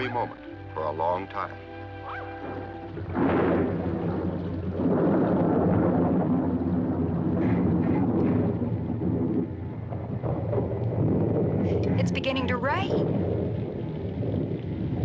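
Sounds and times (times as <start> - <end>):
rolling thunder: 0.0 - 15.0.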